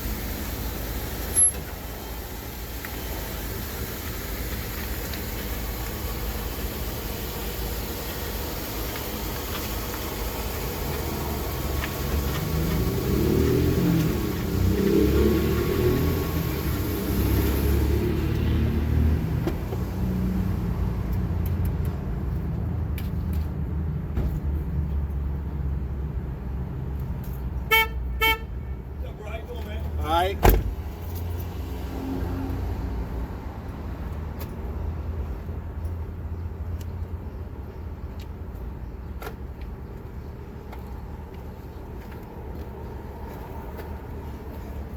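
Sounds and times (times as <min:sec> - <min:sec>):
motor vehicle rumble: 0:00.0 - 0:44.9.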